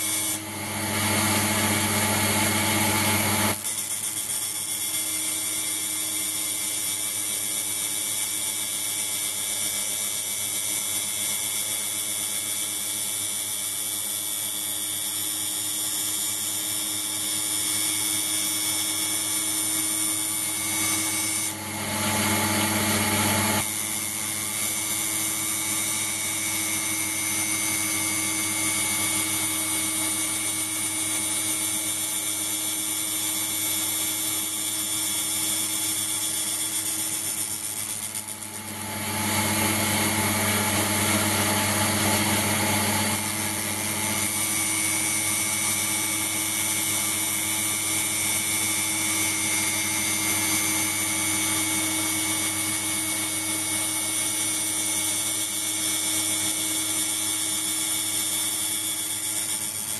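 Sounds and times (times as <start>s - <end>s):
grinder whining on steel: 0.0s - 59.9s.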